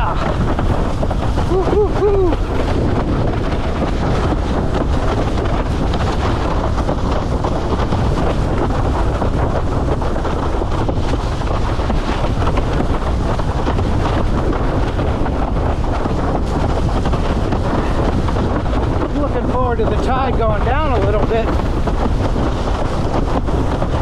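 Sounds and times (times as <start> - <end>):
strong wind on microphone: 0.0 - 24.0
water rushing under board: 0.0 - 24.0.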